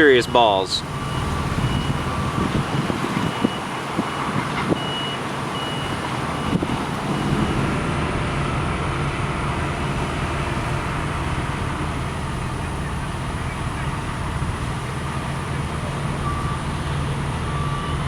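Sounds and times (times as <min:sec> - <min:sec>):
backup alarm beeping: 0:00.0 - 0:18.0
heavy engine running: 0:00.0 - 0:18.0.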